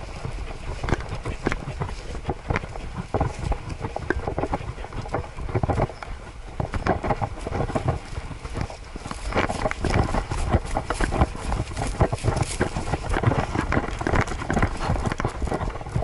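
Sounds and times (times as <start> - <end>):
knocks and rustles of dog strides: 0.0 - 16.0
wind rumble on microphone: 0.0 - 16.0.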